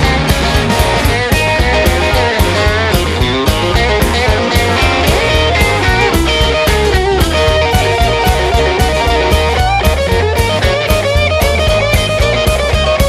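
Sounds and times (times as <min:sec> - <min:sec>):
bass guitar: 0:00.0 - 0:13.0
electric guitar: 0:00.0 - 0:13.0
steady drum beat: 0:00.0 - 0:13.0.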